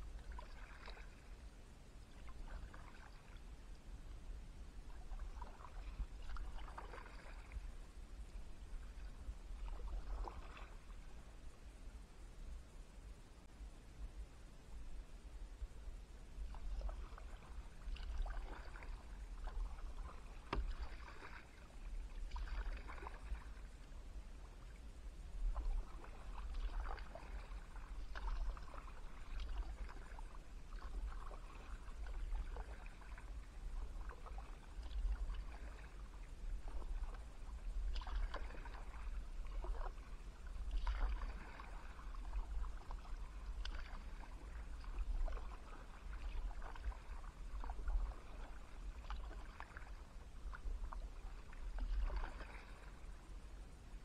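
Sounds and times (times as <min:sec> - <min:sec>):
kayak paddles splashing in water: 0:00.0 - 0:01.5, 0:02.1 - 0:03.6, 0:04.8 - 0:11.4, 0:16.4 - 0:54.0
constant low rumble: 0:00.0 - 0:54.0.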